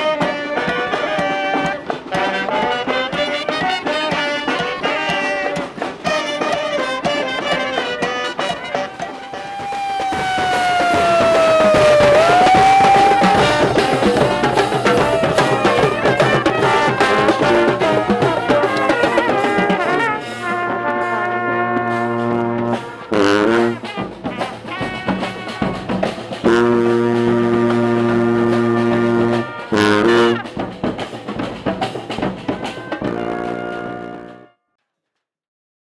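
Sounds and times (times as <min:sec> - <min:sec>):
brass band playing: 0:00.0 - 0:34.6.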